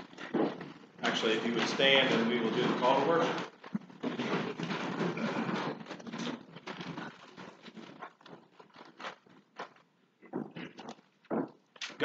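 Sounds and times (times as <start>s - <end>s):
rustling clothes: 0.0s - 11.2s.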